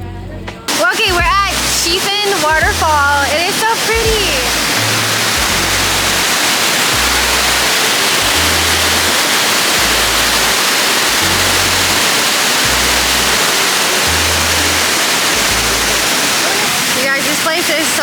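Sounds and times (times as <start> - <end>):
background music bass line: 0.0 - 13.4, 14.0 - 16.1
waterfall roaring: 0.7 - 18.0.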